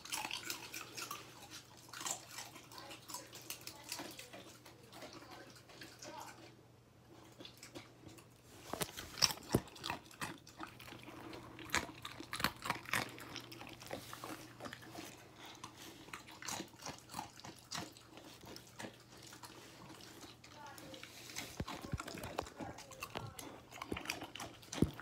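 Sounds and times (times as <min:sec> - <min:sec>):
dog crunching chips: 0:00.0 - 0:25.0.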